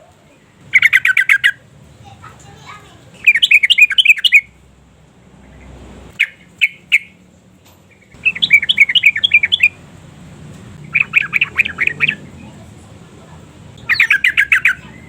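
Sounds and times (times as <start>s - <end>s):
bird chattering and chirping: 0.3s - 4.6s, 5.4s - 7.3s, 7.9s - 15.0s.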